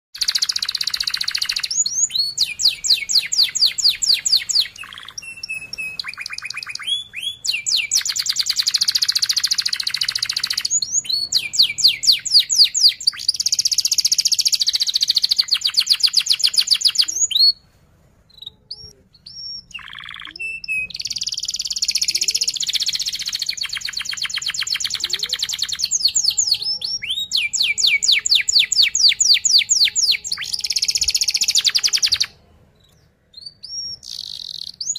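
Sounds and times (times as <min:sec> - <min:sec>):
canary singing rolling trills: 0:00.2 - 0:34.9.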